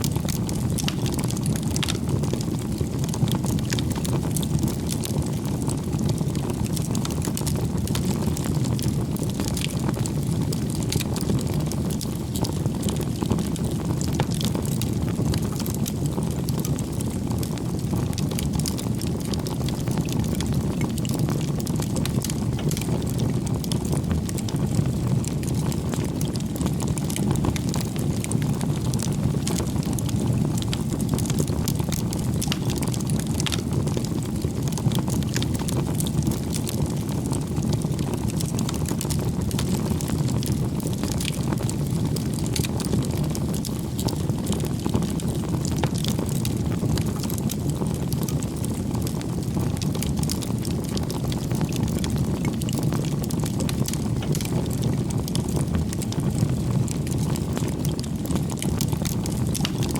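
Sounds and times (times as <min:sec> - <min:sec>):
fire flames rumbling: 0:00.0 - 0:59.9
wood crackling and popping: 0:00.0 - 0:59.9.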